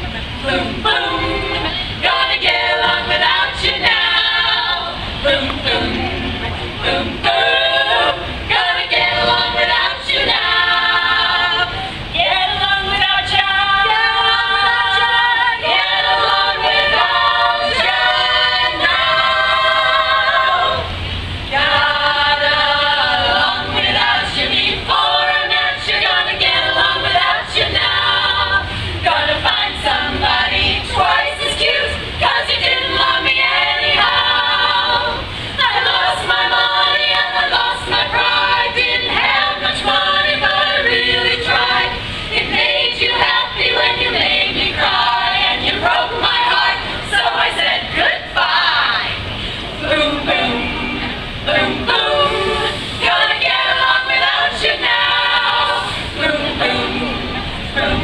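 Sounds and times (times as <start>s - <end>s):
women singing a cappella harmony: 0.0s - 58.0s.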